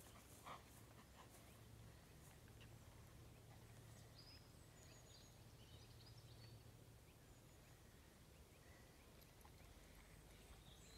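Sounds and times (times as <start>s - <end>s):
faint bird chirps: 1.4s - 10.9s.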